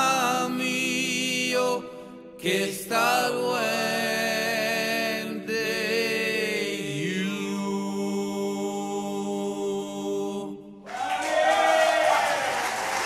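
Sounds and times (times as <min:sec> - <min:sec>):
voices singing in harmony: 0:00.0 - 0:11.0.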